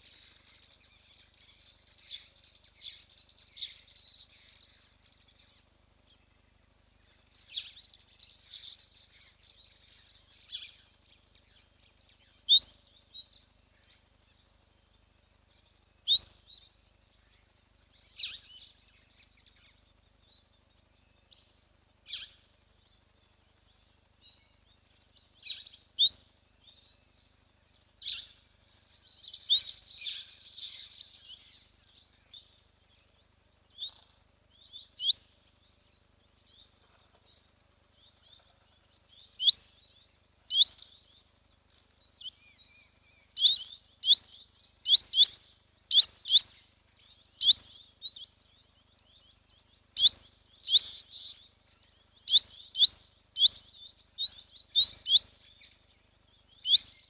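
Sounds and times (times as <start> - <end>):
birds twittering: 7.2 - 20.6, 21.2 - 35.4, 38.0 - 57.0.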